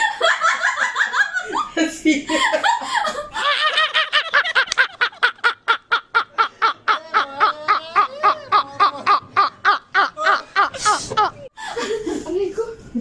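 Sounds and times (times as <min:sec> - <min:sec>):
men laughing hysterically: 0:00.0 - 0:12.2.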